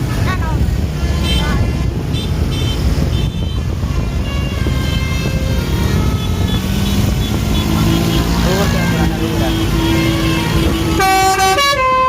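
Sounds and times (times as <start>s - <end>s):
bus diesel engine rumble: 0.0s - 12.0s.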